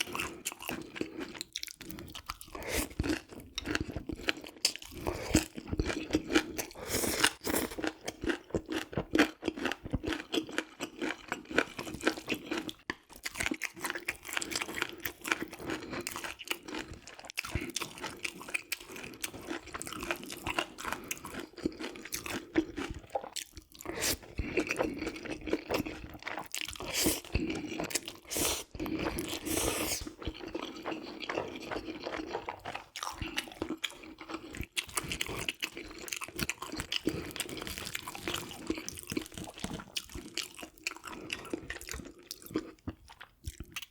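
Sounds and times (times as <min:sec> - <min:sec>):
crunching and chewing food: 0:00.0 - 0:43.9.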